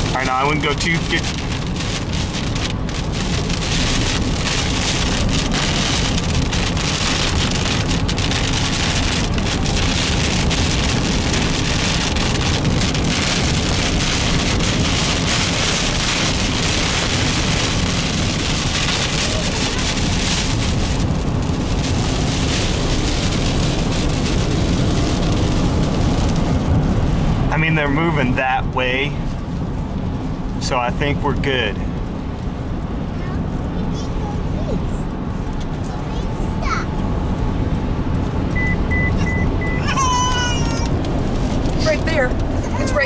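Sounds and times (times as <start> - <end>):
car driving through rain: 0.0 - 43.0
heavy rain on a car roof: 0.0 - 43.0.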